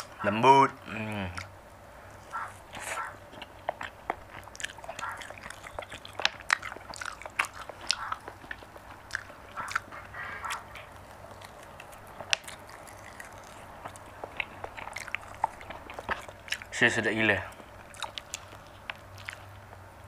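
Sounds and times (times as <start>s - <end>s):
chewing with wet mouth clicks: 1.1s - 1.6s, 2.2s - 19.9s.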